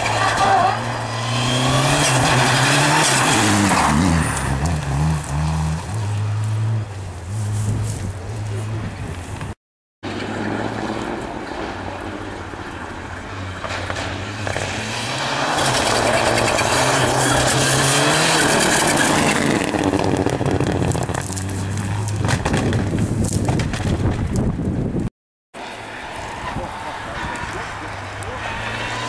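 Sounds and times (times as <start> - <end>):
rally car engine passing revving: 0.0 - 7.8, 10.1 - 22.8, 25.6 - 29.0.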